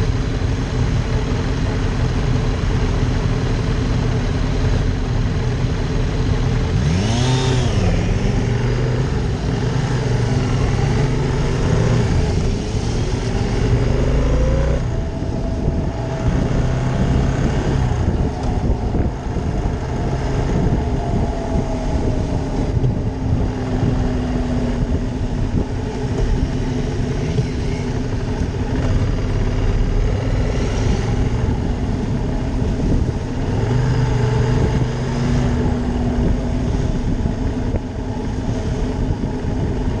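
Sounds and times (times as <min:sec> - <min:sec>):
motorcycle engine revving: 0:06.0 - 0:39.9.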